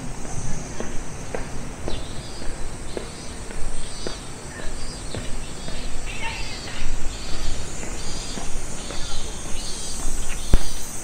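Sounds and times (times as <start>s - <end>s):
faint high chirping: 0.0s - 11.0s
footsteps walking: 0.0s - 11.0s.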